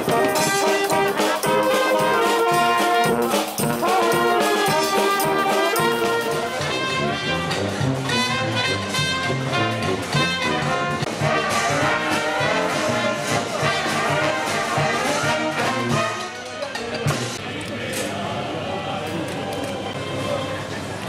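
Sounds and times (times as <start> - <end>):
brass band playing lively tune: 0.0 - 17.4.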